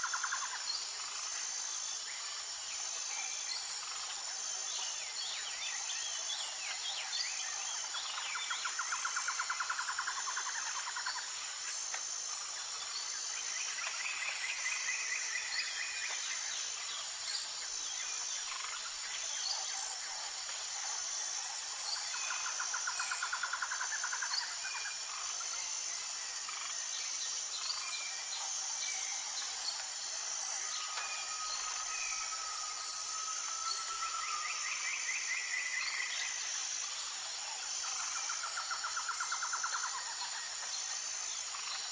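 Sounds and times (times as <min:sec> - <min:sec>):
high insect drone: 0:00.0 - 0:41.9
pulsing insect chirp: 0:00.0 - 0:41.9.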